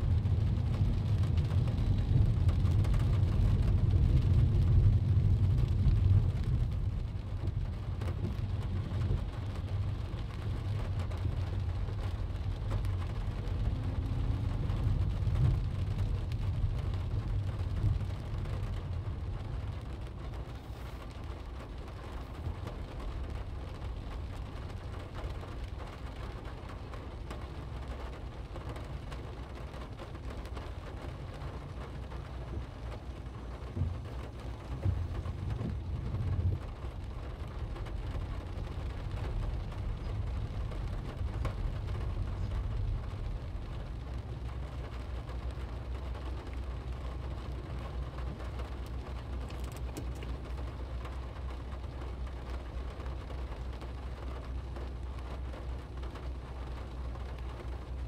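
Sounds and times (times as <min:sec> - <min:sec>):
car engine: 0:00.0 - 0:58.0
rain on car windscreen: 0:00.0 - 0:58.0
raindrop ticks: 0:00.0 - 0:58.0
tyres rumbling on wet road: 0:00.0 - 0:58.0.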